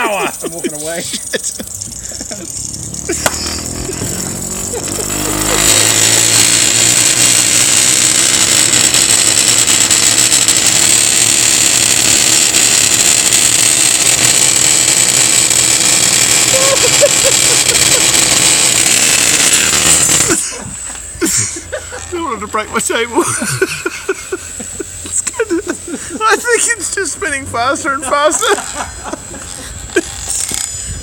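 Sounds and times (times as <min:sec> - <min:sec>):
motorised spinning device whirring: 0:00.0 - 0:31.0.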